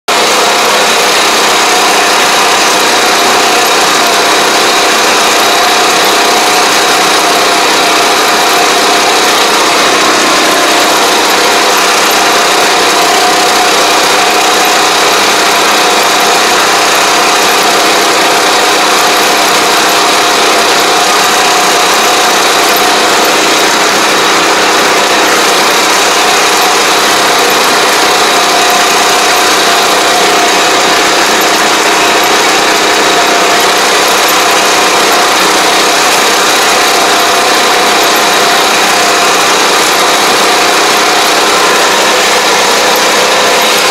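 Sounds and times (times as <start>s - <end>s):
high whine: 0.1s - 43.9s
sprayer engine droning: 0.1s - 43.9s.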